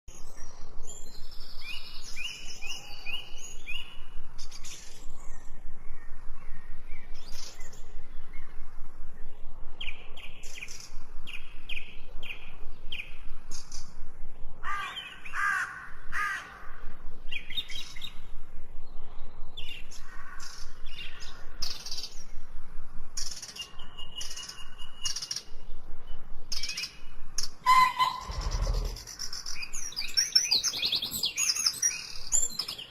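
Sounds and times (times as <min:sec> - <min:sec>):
birds chirping and singing: 0:00.1 - 0:32.9.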